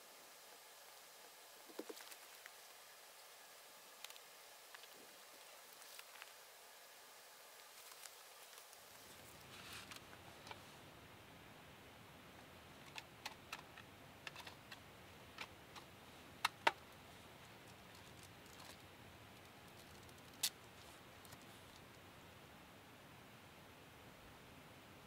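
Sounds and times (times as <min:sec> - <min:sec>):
faint steady hiss: 0:00.0 - 0:25.0.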